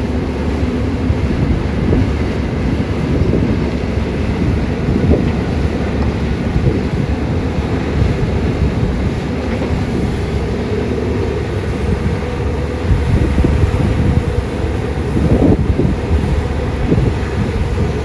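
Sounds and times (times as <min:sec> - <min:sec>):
excavator diesel engine rumbling: 0:00.0 - 0:18.0.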